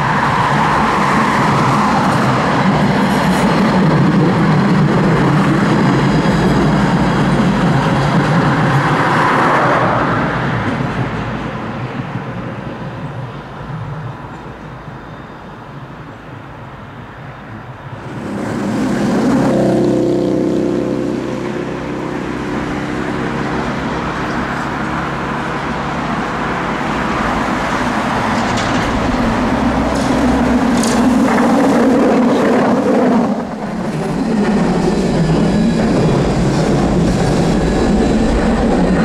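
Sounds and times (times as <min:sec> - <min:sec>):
steady tram whine: 0:00.0 - 0:39.0
tram rolling on track: 0:00.0 - 0:39.0.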